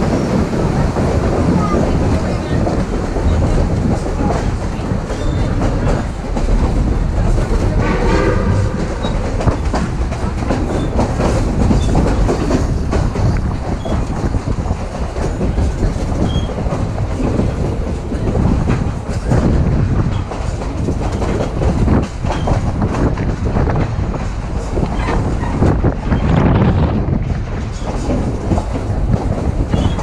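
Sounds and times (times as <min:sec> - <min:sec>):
train rumbling on track: 0:00.0 - 0:30.0
wheels clattering over rail joints: 0:00.0 - 0:30.0.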